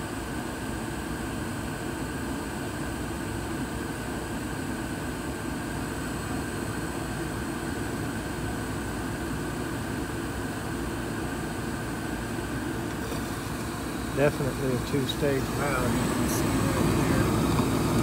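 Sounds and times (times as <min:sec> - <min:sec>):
gas furnace running: 0:00.0 - 0:18.0.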